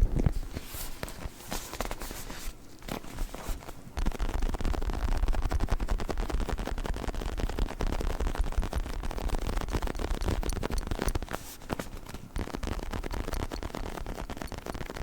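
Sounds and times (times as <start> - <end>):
fingers scratching a pillow: 0.4 - 15.0.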